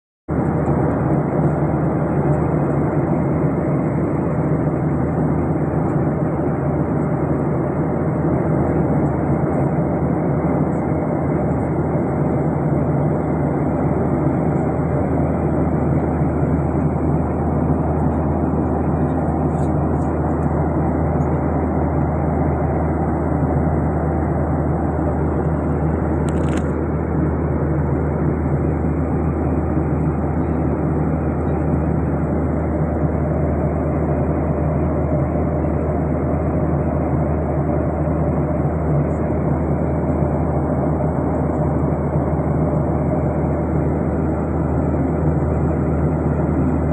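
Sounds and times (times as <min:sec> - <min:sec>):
airliner cabin engine noise: 0:00.3 - 0:46.9.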